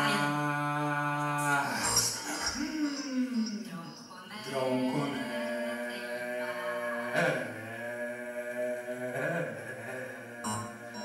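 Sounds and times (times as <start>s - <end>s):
chant-like voice droning: 0.0s - 11.0s.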